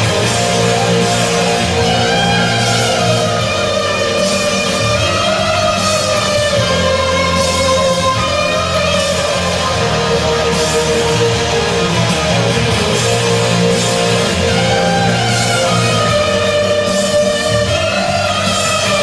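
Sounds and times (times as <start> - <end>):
instrumental rock music: 0.0 - 19.0.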